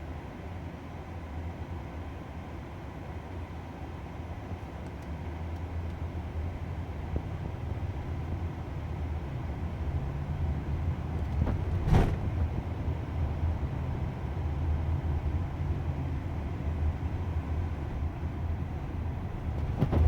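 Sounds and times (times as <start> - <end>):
road noise inside a car: 0.0 - 20.0.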